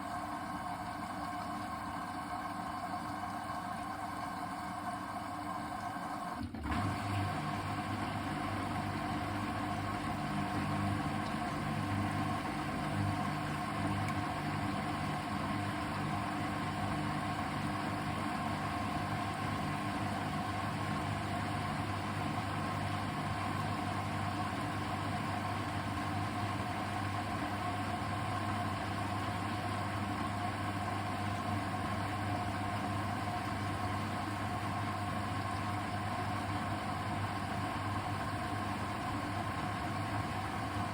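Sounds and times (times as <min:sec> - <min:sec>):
washing machine motor hum: 0:00.0 - 0:40.9.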